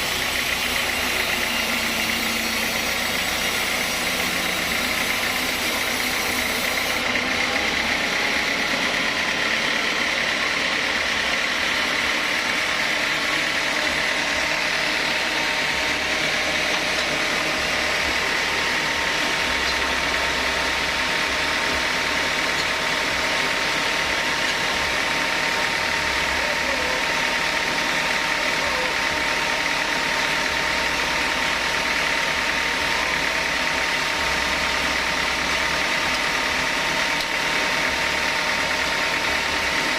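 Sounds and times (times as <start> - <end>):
high mechanical whine: 0.0 - 39.9
sawmill machinery drone: 0.0 - 39.9.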